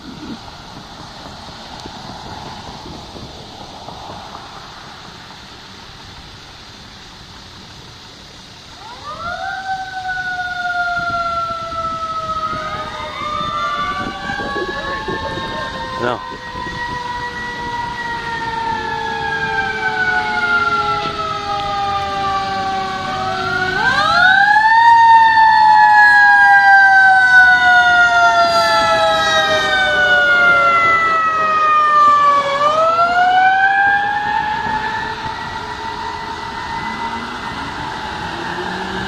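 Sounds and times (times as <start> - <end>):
sirens wailing: 0.0 - 5.8, 8.6 - 39.0.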